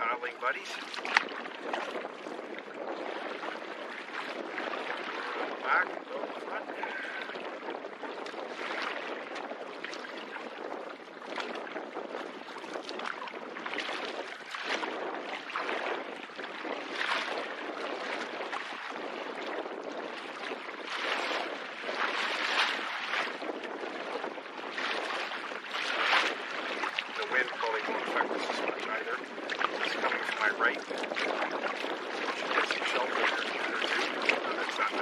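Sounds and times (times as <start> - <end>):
paddle splashing through water: 0.0 - 35.0
wind noise on microphone: 0.0 - 35.0.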